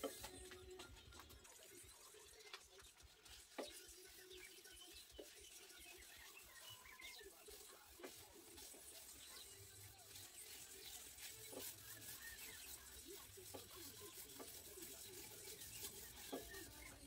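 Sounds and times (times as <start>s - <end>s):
pad rubbing on wooden bowl: 1.2s - 17.0s.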